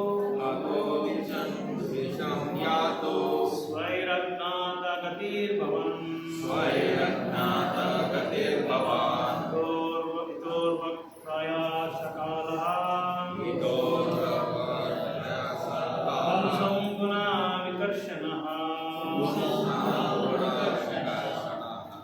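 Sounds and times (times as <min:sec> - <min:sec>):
prayers chanted in slow melody: 0:00.0 - 0:22.0.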